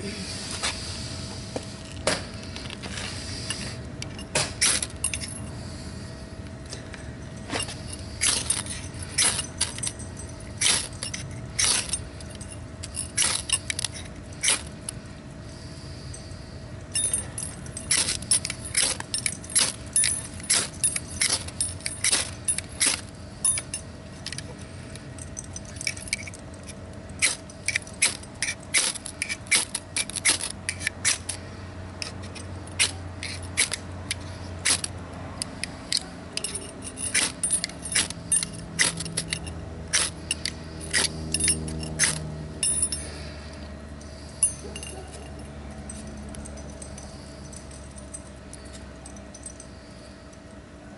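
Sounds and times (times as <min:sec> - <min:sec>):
sharp metallic scraping strokes: 0:00.0 - 0:06.4, 0:07.4 - 0:50.4
faint steady hum: 0:00.0 - 0:50.9.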